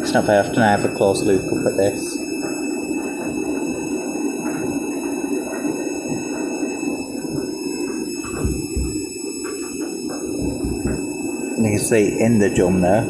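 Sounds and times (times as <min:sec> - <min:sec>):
washing machine whirring hum: 0:00.0 - 0:13.0.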